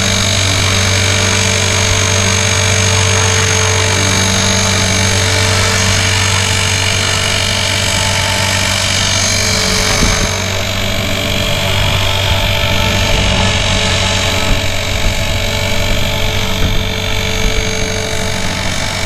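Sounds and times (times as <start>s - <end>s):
rc helicopter gear noise: 0.0s - 19.0s.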